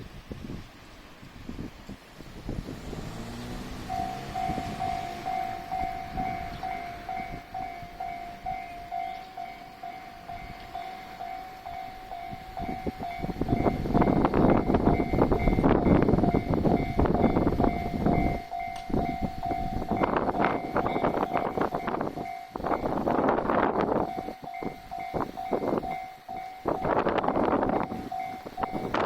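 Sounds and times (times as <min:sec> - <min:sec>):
diesel train rumbling and clattering: 0:00.0 - 0:29.0
level crossing warning bell: 0:03.0 - 0:29.0.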